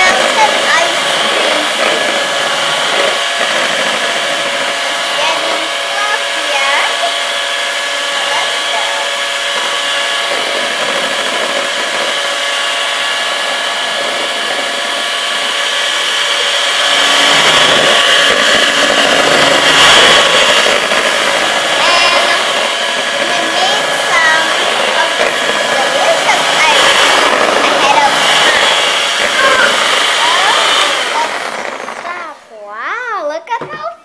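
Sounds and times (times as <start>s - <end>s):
electric hand mixer whining: 0.0s - 32.7s.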